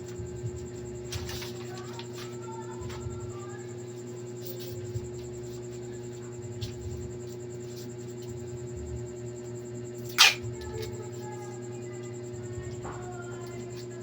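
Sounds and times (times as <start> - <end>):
electric fan motor humming: 0.0 - 14.0.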